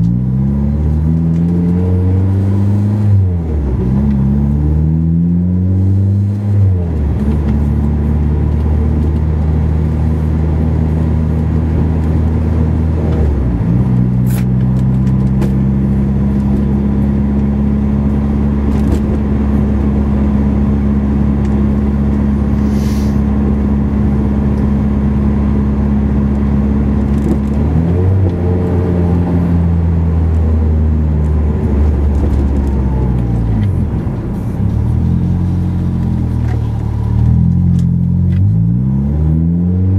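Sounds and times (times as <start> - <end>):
supercharged car engine: 0.0 - 39.9.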